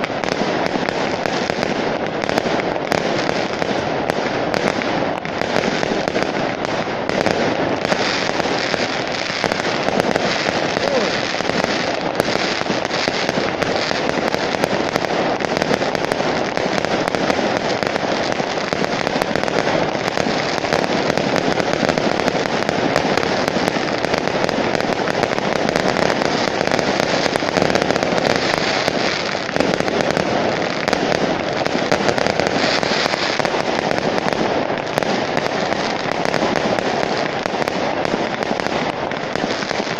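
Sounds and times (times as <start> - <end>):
fireworks popping and crackling: 0.0 - 39.9.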